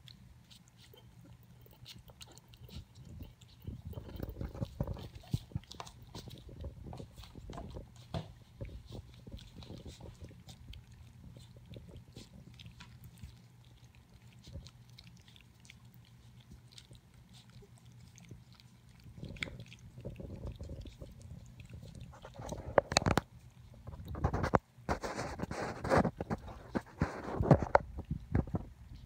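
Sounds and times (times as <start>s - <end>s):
puppies lapping from metal bowl: 0.8s - 28.7s.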